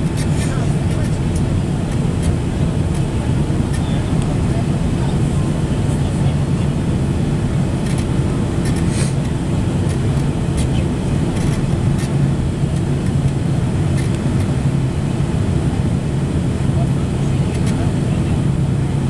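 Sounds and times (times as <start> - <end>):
airplane cabin engine drone: 0.0 - 19.0.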